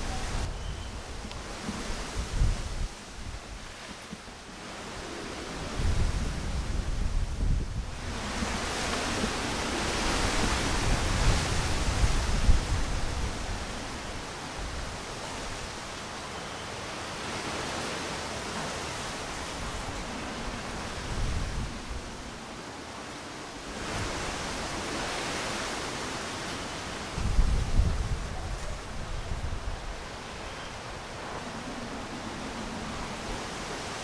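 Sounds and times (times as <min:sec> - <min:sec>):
wind rushing through tree leaves: 0:00.0 - 0:34.0.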